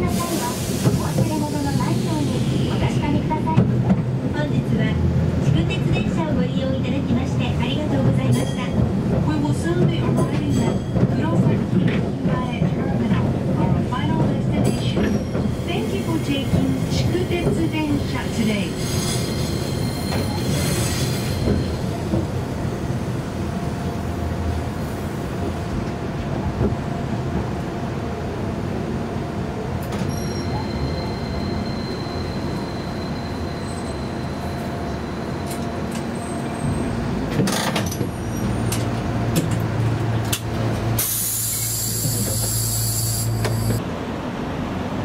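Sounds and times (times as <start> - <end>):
tram wheels rumbling: 0.0 - 45.0.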